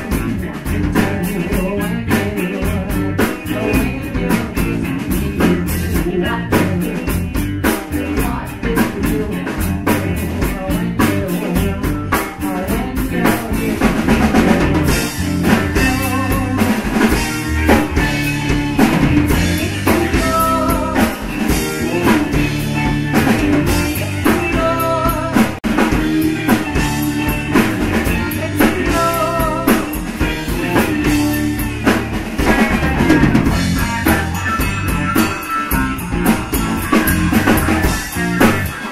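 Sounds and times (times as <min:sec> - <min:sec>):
rock blues band playing: 0:00.0 - 0:38.9.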